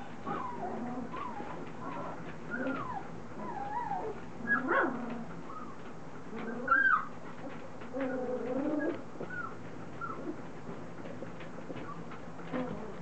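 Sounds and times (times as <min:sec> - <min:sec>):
puppies whining: 0:00.0 - 0:10.5, 0:11.7 - 0:13.0.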